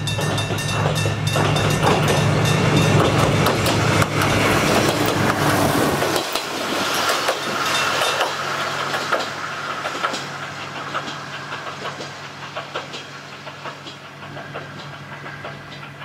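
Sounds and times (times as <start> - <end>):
railcar wheels clacking on rail joints: 0.0 - 16.0.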